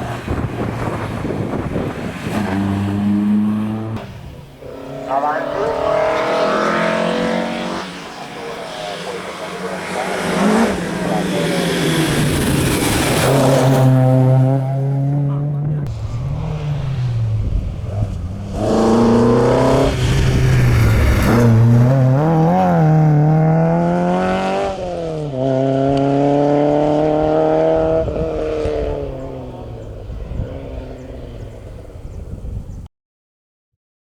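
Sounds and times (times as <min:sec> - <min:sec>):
rally car engine accelerating: 0:00.0 - 0:31.9.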